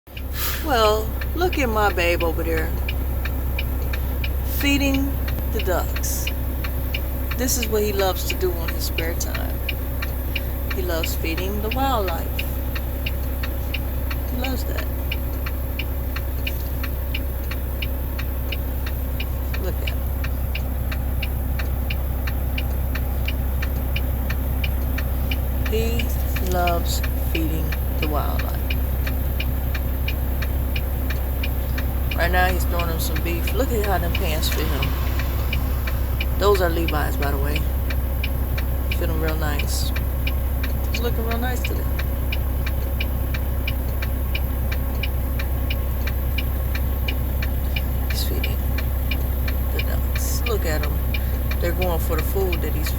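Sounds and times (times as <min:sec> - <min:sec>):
car idling: 0:00.0 - 0:52.9
sharp regular ticking: 0:00.1 - 0:52.9.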